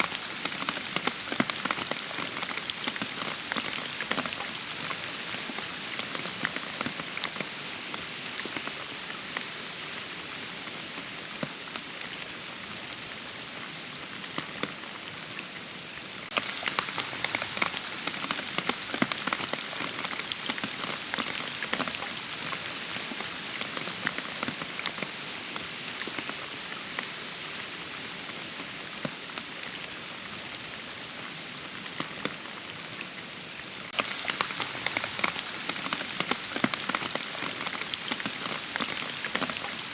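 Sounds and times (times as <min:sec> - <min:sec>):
rain with drops ticking: 0:00.0 - 0:39.9.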